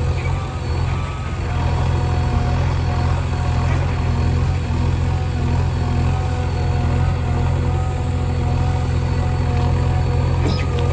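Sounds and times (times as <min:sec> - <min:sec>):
heavy diesel engine running: 0:00.0 - 0:10.9.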